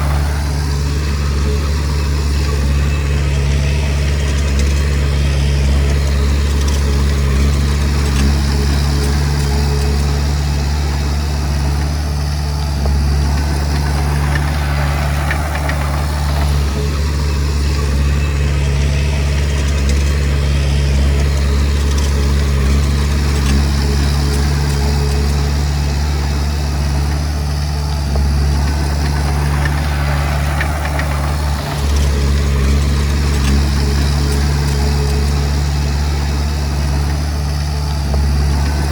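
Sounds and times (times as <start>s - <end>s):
bulldozer diesel engine humming: 0.0s - 38.9s.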